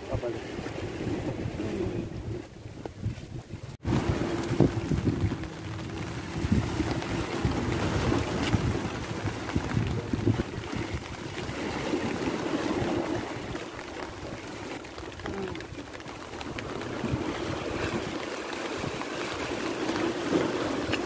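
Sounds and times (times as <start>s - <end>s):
sea waves breaking on rocks: 0.0s - 21.0s
wind buffeting microphone: 0.0s - 21.0s.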